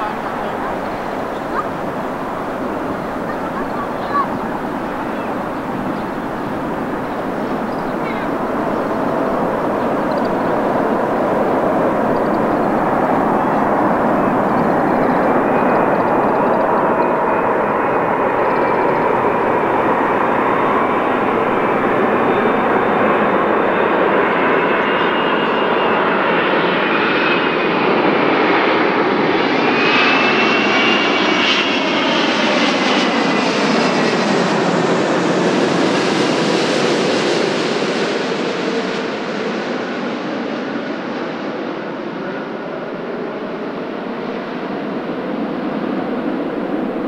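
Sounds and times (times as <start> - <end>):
jet airliner passing overhead: 0.0 - 47.0.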